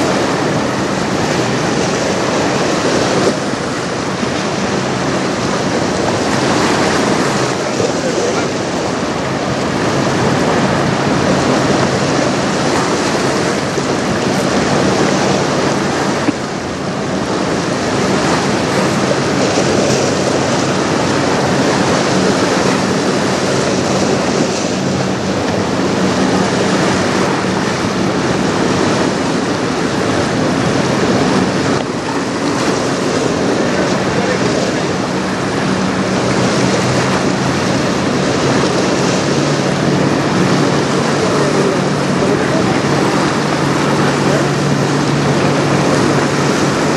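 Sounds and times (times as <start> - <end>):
river water churning: 0.0 - 46.9
wind buffeting microphone: 0.0 - 46.9.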